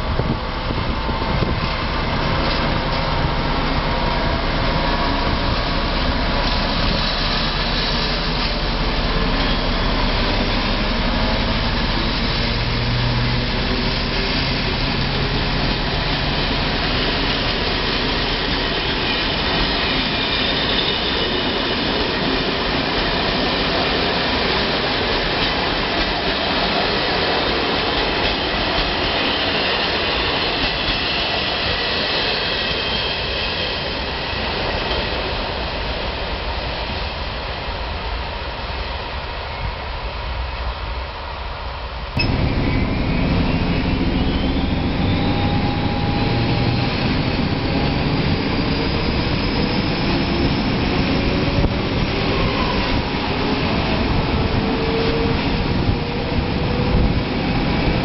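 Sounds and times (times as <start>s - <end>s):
diesel locomotive engine: 0.0s - 58.0s
train coaches rumbling on rails: 0.0s - 58.0s.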